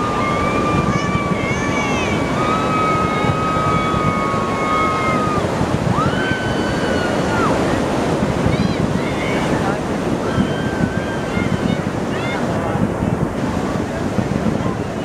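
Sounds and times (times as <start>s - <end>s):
crowd ambience: 0.0s - 15.0s
surf rushing: 0.0s - 15.0s
wind: 0.0s - 15.0s.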